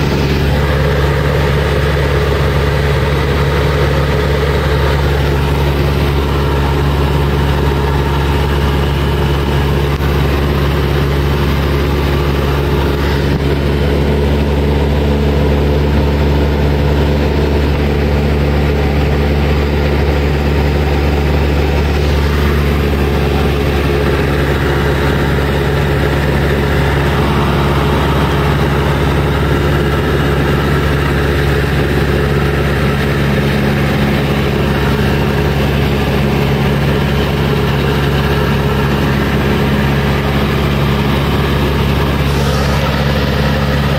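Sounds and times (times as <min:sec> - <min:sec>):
propeller plane engine drone: 0:00.0 - 0:43.9.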